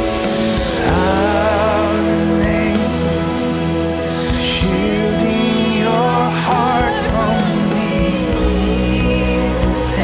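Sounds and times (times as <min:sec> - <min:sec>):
slow song with bass: 0:00.0 - 0:10.0.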